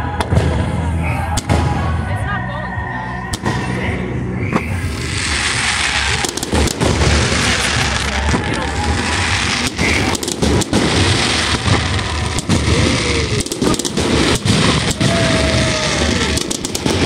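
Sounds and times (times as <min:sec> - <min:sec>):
fireworks booming and crackling: 0:00.0 - 0:02.0, 0:03.3 - 0:17.0.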